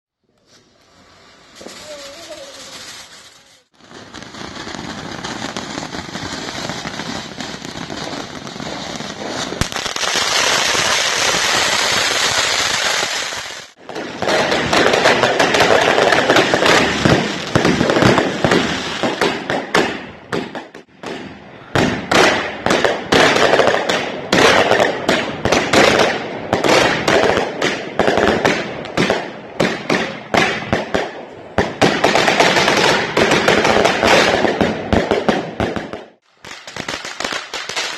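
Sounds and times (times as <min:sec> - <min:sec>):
firecrackers crackling: 0:00.4 - 0:37.9
firecracker bangs: 0:01.6 - 0:37.9.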